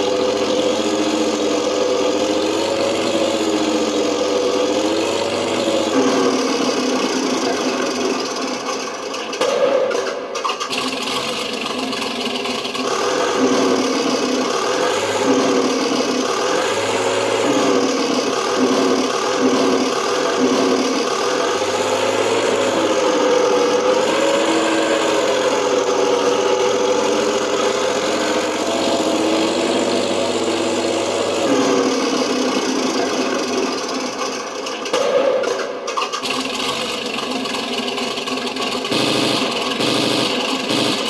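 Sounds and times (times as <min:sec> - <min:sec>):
tank engine revving: 0:00.0 - 0:41.0.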